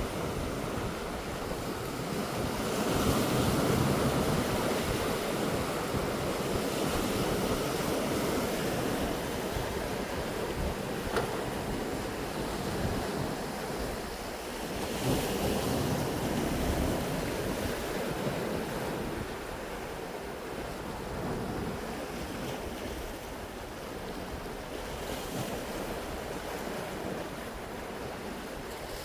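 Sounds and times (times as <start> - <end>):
surf washing on beach: 0.0 - 29.0
wind buffeting microphone: 0.0 - 29.0.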